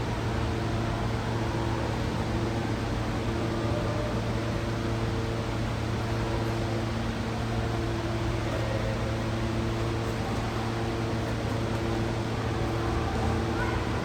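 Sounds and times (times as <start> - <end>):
mechanical hum with drone: 0.0 - 14.0.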